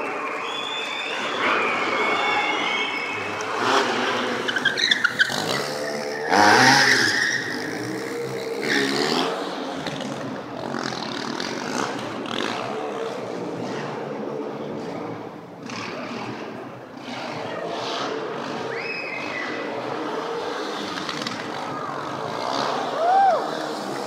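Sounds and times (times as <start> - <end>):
motorcycle engine revving: 3.1 - 24.0.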